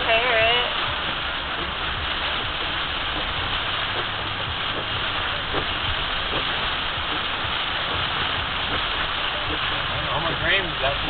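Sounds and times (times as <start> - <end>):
heavy rain on car: 0.0 - 11.0
tyres rumbling on wet road: 0.0 - 11.0.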